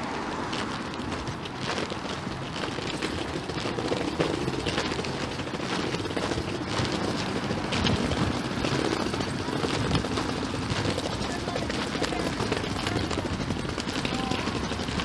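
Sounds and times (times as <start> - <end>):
vehicles on cobblestones: 0.0 - 15.0.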